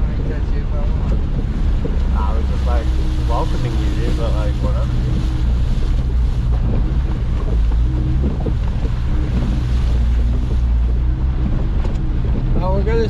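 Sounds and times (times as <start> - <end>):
off-road vehicle engine: 0.0 - 13.0
wind buffeting microphone: 0.0 - 13.0.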